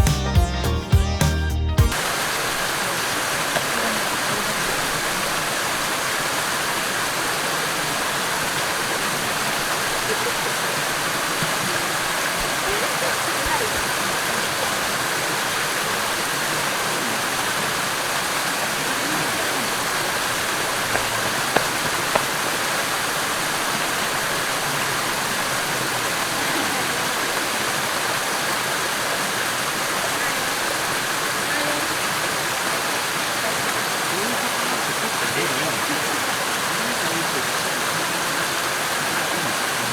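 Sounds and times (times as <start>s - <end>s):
stream water rushing: 1.9s - 39.9s.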